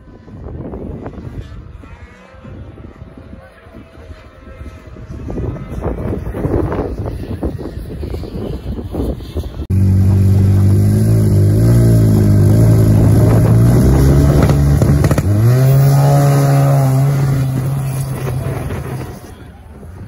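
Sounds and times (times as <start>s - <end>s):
snowmobile engines revving: 0.0s - 20.0s
wind on microphone: 0.0s - 20.0s.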